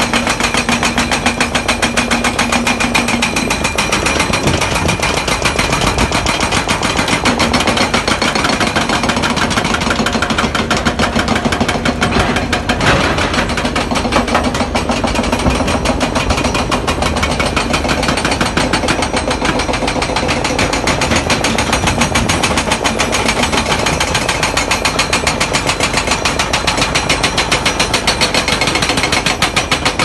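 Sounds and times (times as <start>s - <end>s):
hydraulic breaker hammering rock: 0.0s - 30.0s.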